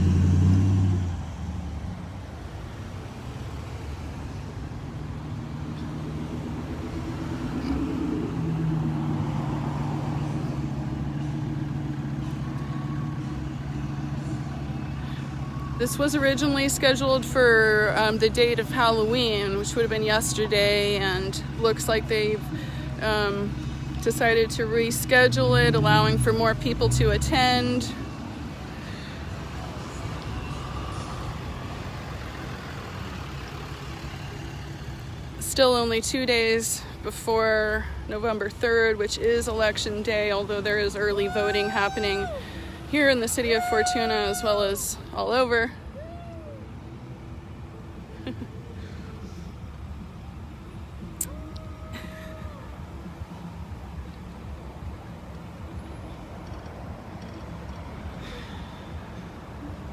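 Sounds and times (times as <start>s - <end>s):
road noise: 0.0s - 59.9s
slow-moving cars and trucks: 0.0s - 59.9s
traffic rolling past: 0.0s - 59.9s.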